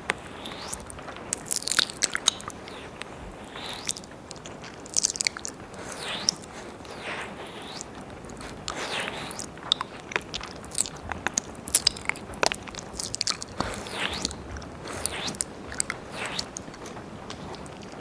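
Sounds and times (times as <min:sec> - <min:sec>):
tongue licks and lip smacks: 0:00.4 - 0:02.8, 0:03.5 - 0:18.0
breathy slurping: 0:03.5 - 0:18.0.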